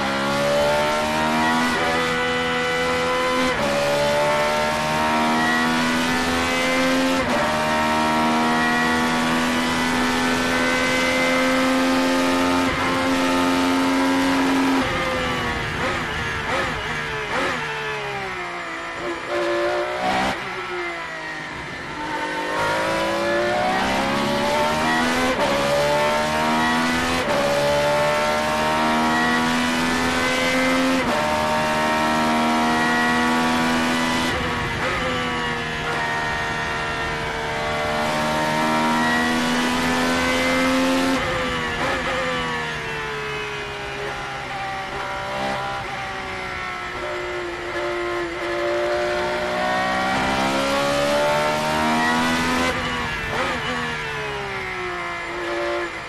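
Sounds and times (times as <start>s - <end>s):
race car engine revving: 0.0s - 18.2s, 19.0s - 20.5s, 21.4s - 35.2s, 36.6s - 42.8s, 46.9s - 54.6s, 55.3s - 56.0s
engine blips on downshifts: 0.0s - 56.0s.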